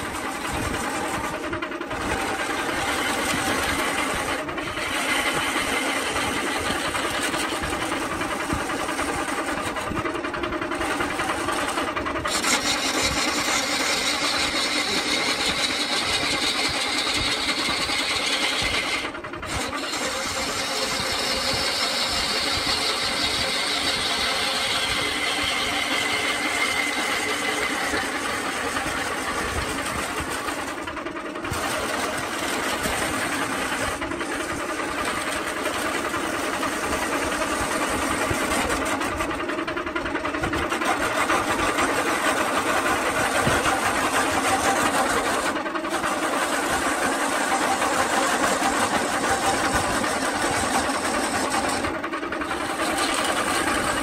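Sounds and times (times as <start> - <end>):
lathe motor hum: 0.0 - 54.0
turning tool scraping wood: 0.0 - 54.0.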